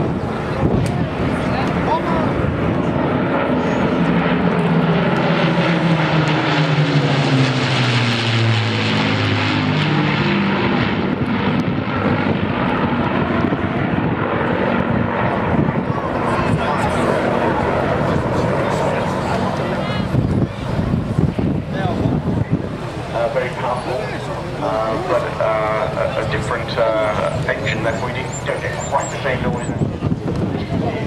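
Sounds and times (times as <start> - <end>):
propeller aircraft engines droning: 0.0 - 31.0.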